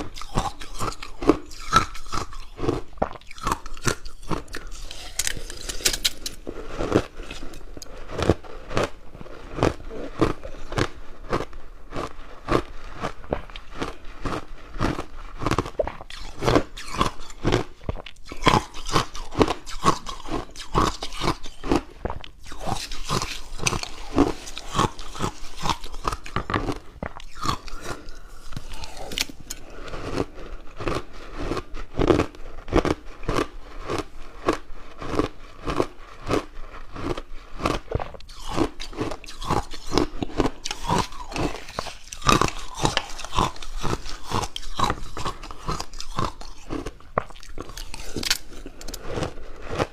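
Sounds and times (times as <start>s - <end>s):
ice crunching while chewed: 0.0s - 49.9s.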